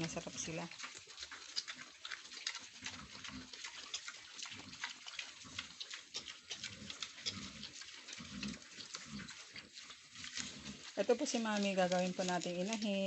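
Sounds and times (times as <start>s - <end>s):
pigs chewing leaves: 0.0s - 13.0s.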